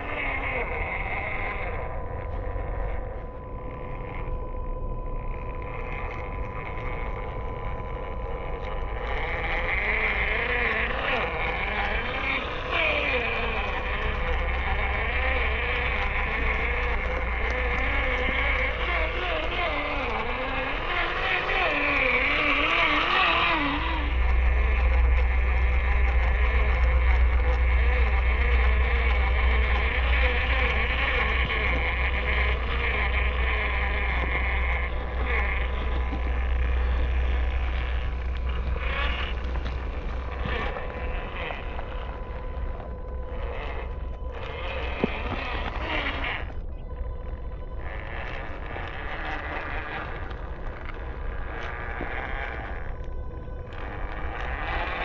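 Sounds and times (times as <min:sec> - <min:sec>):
electric motor whining: 0:00.0 - 0:55.0
low rumble: 0:00.0 - 0:55.0.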